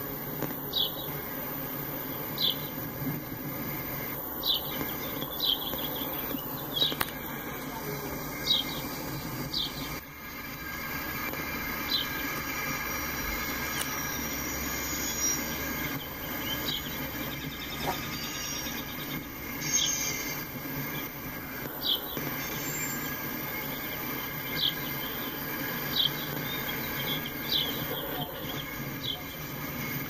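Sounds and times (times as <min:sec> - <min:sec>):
wheels rumbling on rail: 0:00.0 - 0:30.0
high wheel squeaks: 0:02.0 - 0:30.0.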